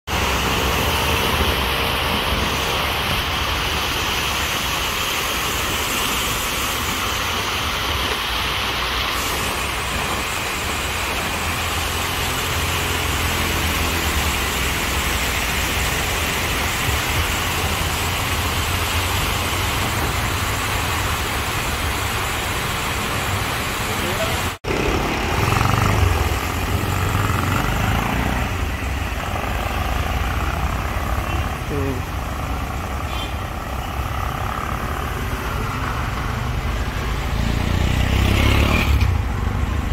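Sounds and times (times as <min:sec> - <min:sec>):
fountain water splashing: 0:00.1 - 0:39.9.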